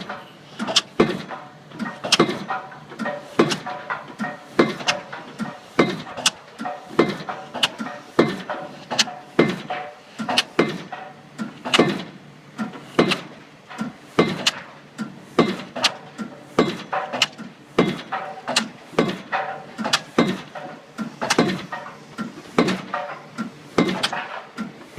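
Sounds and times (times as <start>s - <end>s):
pile driver hammer blows: 0.0s - 14.7s, 15.4s - 24.5s.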